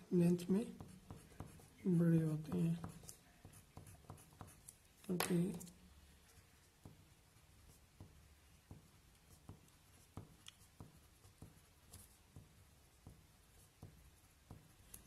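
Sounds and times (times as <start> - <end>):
pen scratching on paper: 0.4 - 4.8, 6.6 - 15.0.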